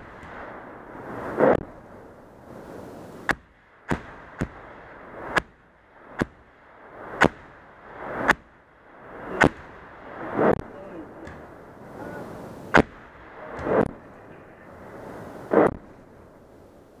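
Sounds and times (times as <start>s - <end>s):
artillery and mortar booms: 0.0s - 16.5s.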